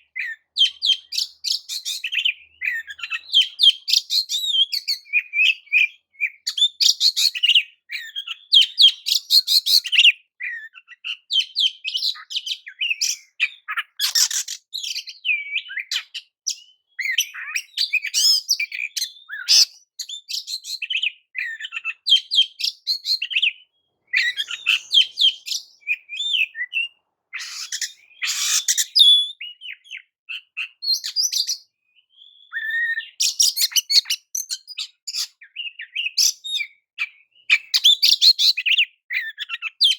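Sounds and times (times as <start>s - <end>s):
bird singing whistles and chatter: 0.1s - 39.9s.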